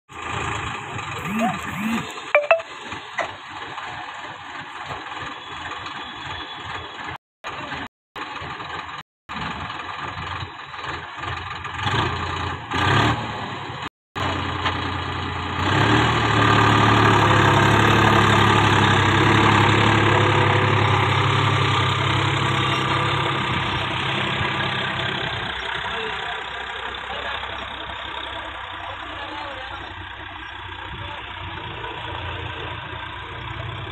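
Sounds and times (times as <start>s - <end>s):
tractor diesel engine running: 0.1s - 11.8s, 16.2s - 33.9s.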